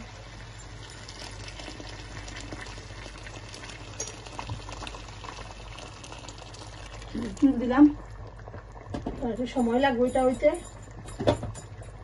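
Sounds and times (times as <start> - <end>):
curry bubbling and sizzling in pan: 0.0 - 10.1.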